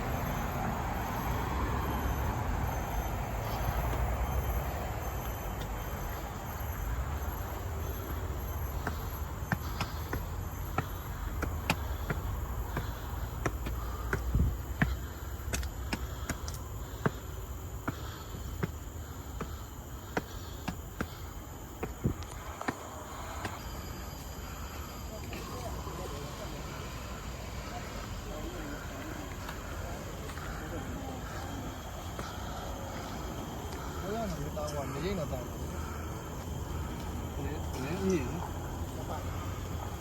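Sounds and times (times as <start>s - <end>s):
distant traffic rumble: 0.0s - 40.0s
faint insect drone: 0.0s - 40.0s.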